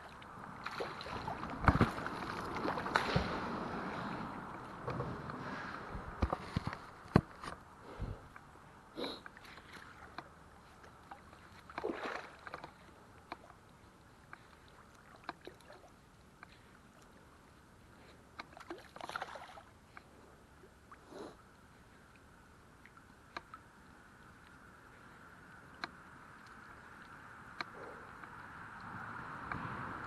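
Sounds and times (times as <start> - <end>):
water sloshing and splashing: 0.0 - 8.5, 9.2 - 29.2.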